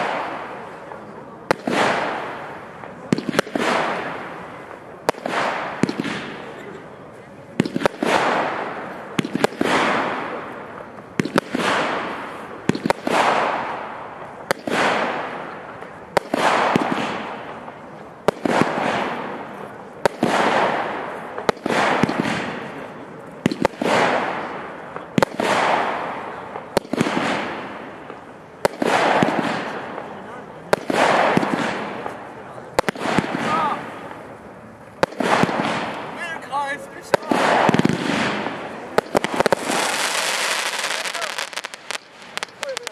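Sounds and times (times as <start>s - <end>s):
firework shots banging and hissing: 0.0s - 42.9s.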